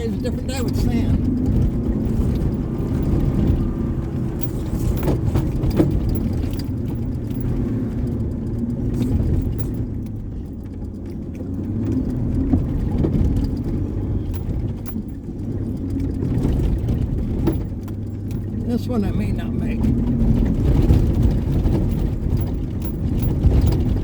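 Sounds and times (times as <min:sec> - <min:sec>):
loose gear rattling: 0:00.0 - 0:18.9, 0:19.8 - 0:24.0
truck engine and tyre rumble: 0:00.0 - 0:24.0.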